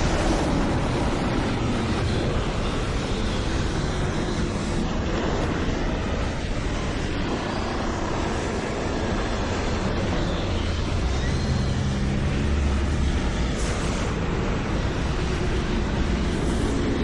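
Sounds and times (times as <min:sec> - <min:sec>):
strong wind rushing: 0:00.0 - 0:17.0.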